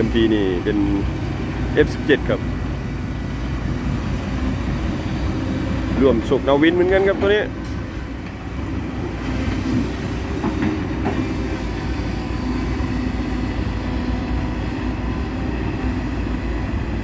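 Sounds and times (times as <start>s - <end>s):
heavy diesel engines rumbling: 0.0s - 17.0s.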